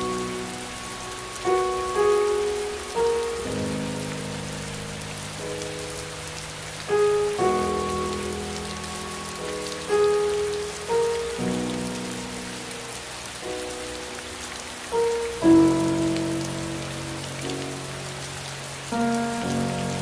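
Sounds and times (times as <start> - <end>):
slow soft music: 0.0 - 20.0
steady rain: 0.0 - 20.0.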